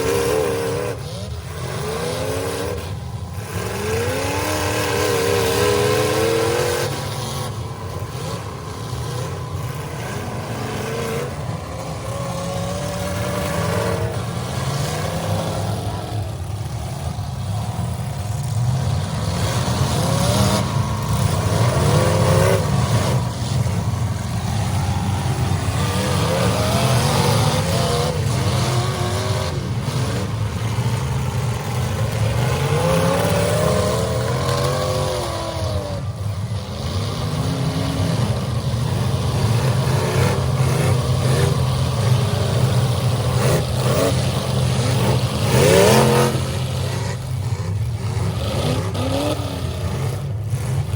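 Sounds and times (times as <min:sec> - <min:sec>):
car engines revving: 0:00.0 - 0:50.9.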